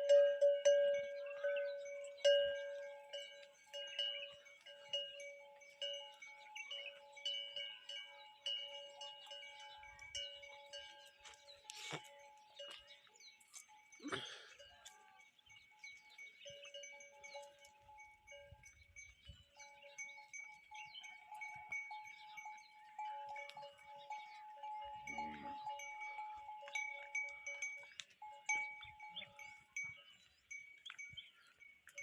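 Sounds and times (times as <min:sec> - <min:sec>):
cattle bells clinking: 0:00.0 - 0:32.0.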